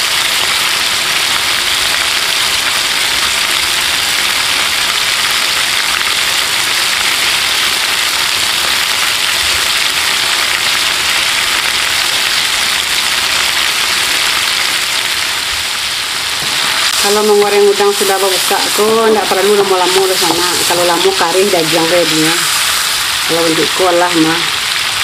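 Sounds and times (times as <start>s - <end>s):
shrimp sizzling in hot oil: 0.0s - 25.0s.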